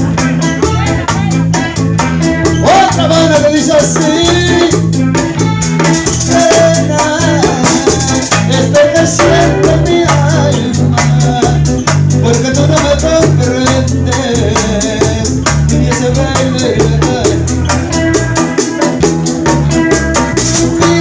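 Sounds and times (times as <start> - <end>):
electric bass line: 0.0 - 21.0
guira scraping rhythm: 0.0 - 21.0
guitar melody: 0.0 - 21.0.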